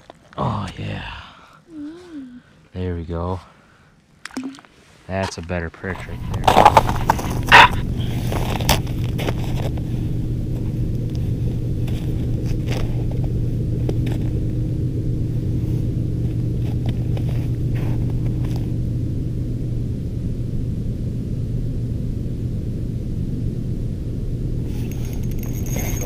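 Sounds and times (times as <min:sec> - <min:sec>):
steady low rumble: 0:05.1 - 0:26.0.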